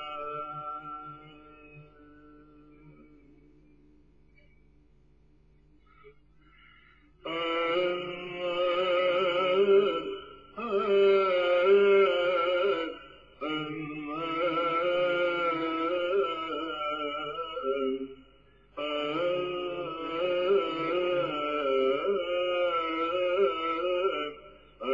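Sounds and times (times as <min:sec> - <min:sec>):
voices chanting long notes: 0:00.0 - 0:03.6, 0:07.2 - 0:18.2, 0:18.8 - 0:24.9.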